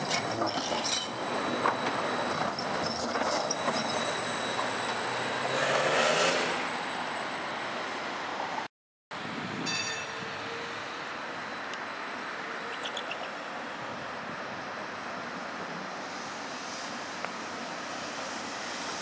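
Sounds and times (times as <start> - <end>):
tram rolling on track: 0.0 - 19.0.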